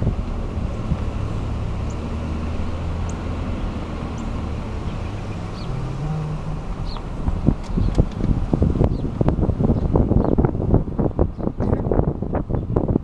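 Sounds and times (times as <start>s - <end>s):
vehicle engine running low: 0.0s - 13.0s.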